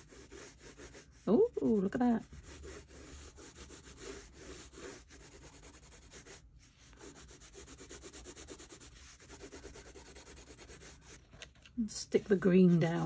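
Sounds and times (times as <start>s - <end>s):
pencil scribbling on paper: 0.0s - 11.2s.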